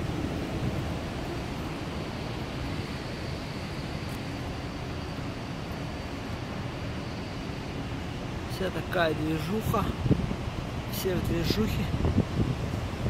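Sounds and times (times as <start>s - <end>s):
faint high steady whine: 0.0s - 13.0s
low rumble of traffic: 0.0s - 13.0s.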